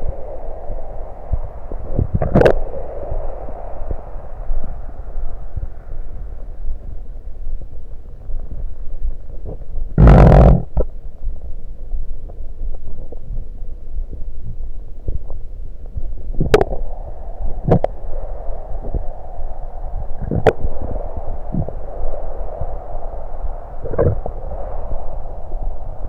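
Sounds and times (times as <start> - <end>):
stomach rumbling: 0.0 - 11.5, 12.2 - 26.0
soft hiss: 0.0 - 26.0.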